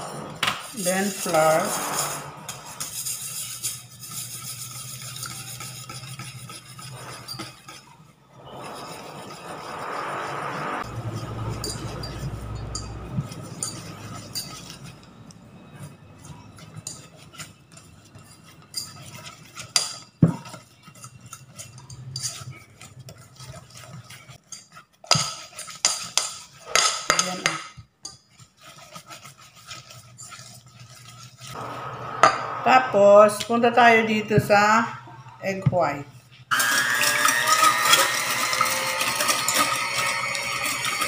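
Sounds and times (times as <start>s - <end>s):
whisk scraping a steel bowl: 0.0s - 31.8s, 36.5s - 41.0s.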